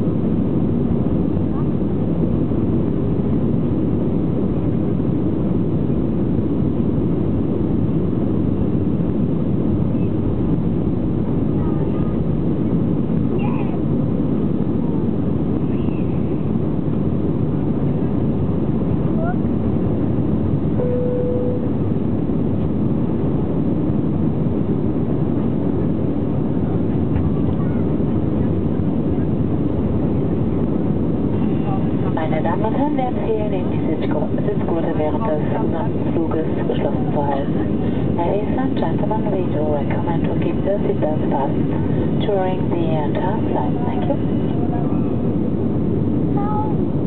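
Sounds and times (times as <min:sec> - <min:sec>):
jet engines at takeoff thrust: 0:00.0 - 0:47.0.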